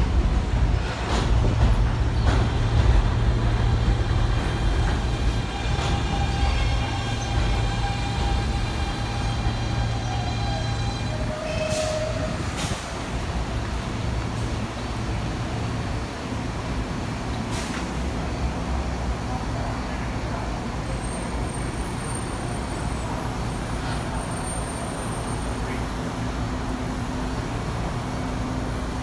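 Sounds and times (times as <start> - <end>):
high train whine: 0.0 - 29.0
train wheels rumbling on track: 0.0 - 29.0.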